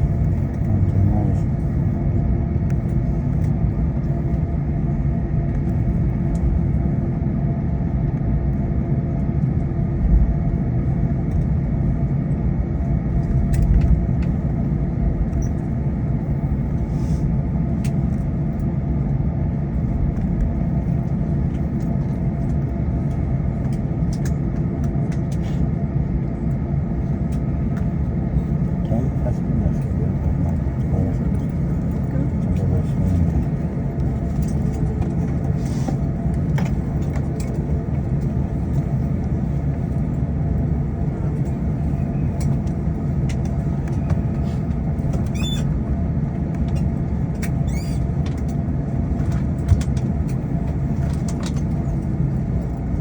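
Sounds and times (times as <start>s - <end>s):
aircraft cabin engine hum: 0.0s - 53.0s.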